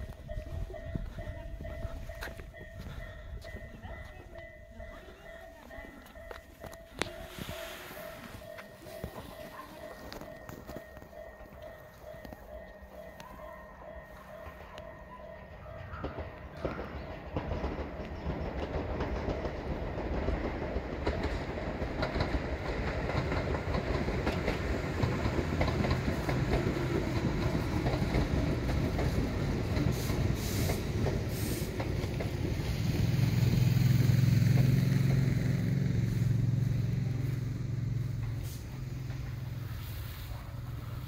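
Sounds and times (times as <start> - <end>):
train wheels clattering: 0.0 - 41.0.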